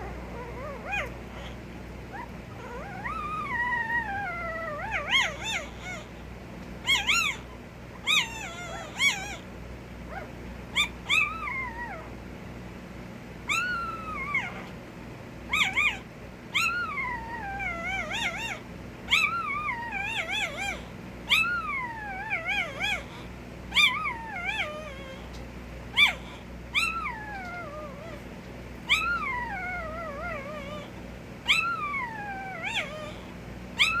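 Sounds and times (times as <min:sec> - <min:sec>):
puppy whining and crying: 0:00.0 - 0:06.2, 0:06.8 - 0:09.5, 0:10.1 - 0:12.2, 0:13.4 - 0:14.8, 0:15.5 - 0:34.0.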